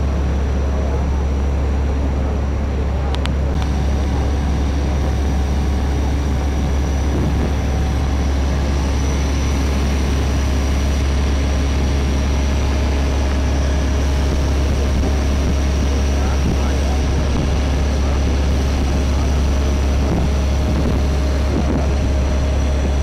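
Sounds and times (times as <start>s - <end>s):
boat engine drone: 0.0s - 23.0s
faint steady whine: 0.0s - 23.0s.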